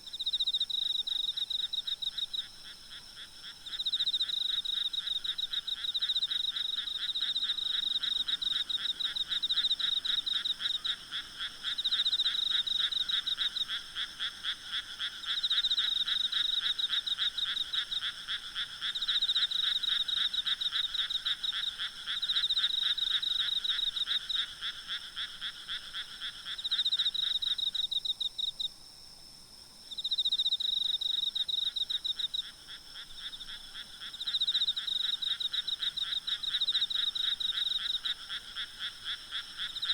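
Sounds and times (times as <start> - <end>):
frogs trilling: 0.2 - 28.6, 30.0 - 39.9
insects trilling: 0.2 - 28.7, 29.8 - 39.9.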